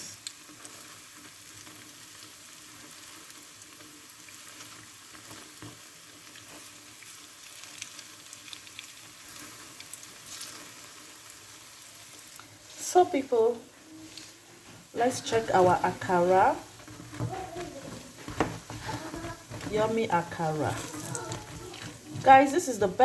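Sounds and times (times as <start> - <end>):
oil popping and crackling: 0.0 - 13.0, 14.0 - 23.0
fritters sizzling in hot oil: 0.0 - 23.0.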